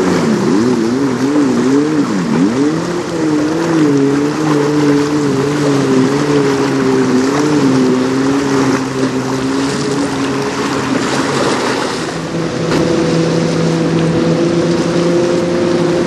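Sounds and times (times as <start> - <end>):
boat engine humming: 0.0 - 16.0
choppy water: 0.0 - 16.0.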